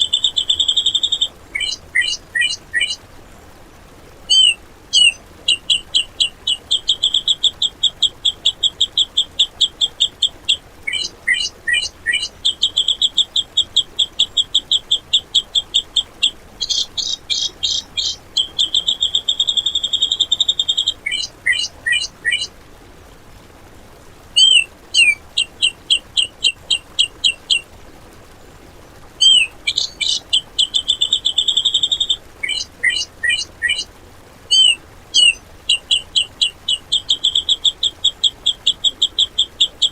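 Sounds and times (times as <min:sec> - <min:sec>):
bird harsh chattering song: 0:00.0 - 0:03.0, 0:04.3 - 0:22.5, 0:24.4 - 0:27.7, 0:29.2 - 0:33.9, 0:34.5 - 0:39.9.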